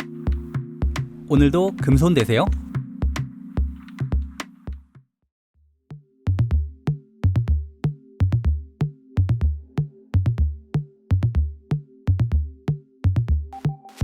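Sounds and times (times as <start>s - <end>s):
drum machine beat: 0.0s - 5.0s, 6.3s - 14.0s.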